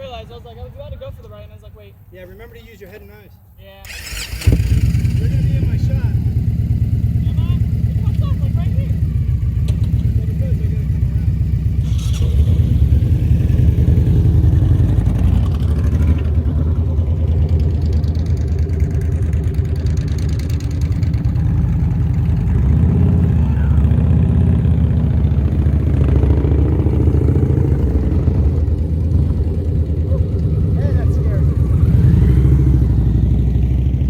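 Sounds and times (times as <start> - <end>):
motorcycle engine at low revs: 3.9 - 34.0.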